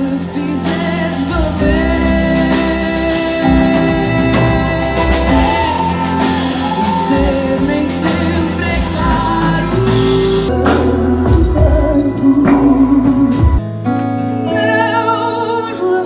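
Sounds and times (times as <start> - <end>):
woman singing: 0.0 - 13.6, 14.2 - 16.0
small band playing: 0.0 - 16.0.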